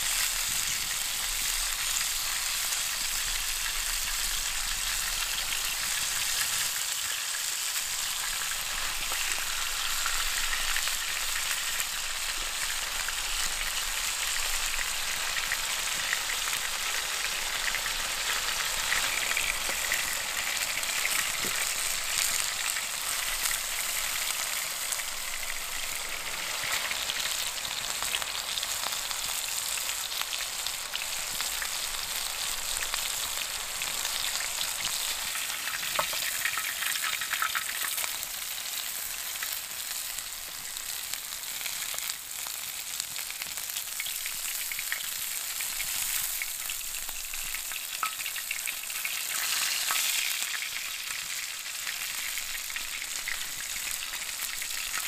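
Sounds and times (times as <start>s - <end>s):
burgers sizzling in a grill pan: 0.0s - 55.0s.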